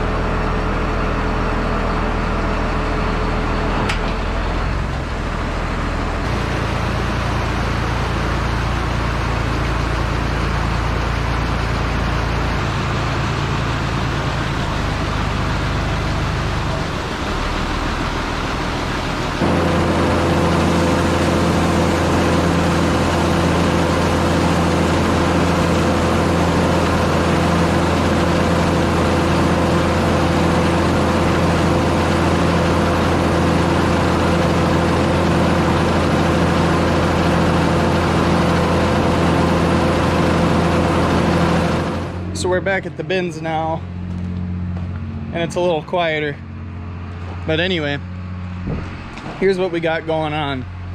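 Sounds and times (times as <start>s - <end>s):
broad rumble: 0.0s - 50.9s
steady engine drone: 0.0s - 50.9s
vehicle engine running: 0.0s - 50.9s.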